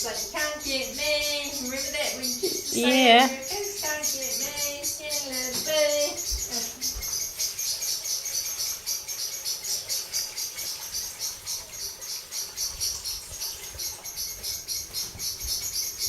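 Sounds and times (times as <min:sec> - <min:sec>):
small birds alarm chirps: 0:00.0 - 0:16.0.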